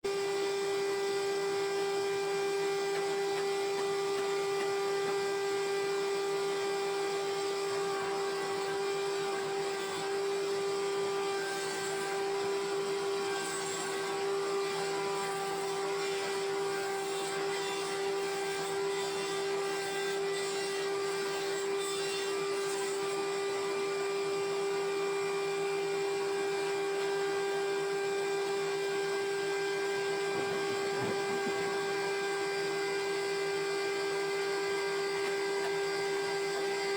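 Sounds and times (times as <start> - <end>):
sawmill machinery whine: 0.1 - 36.9.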